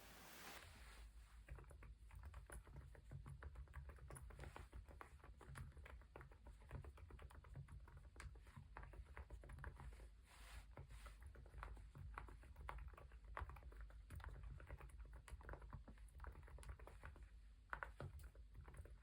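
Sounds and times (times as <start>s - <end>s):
soft keyboard typing: 1.4s - 19.0s.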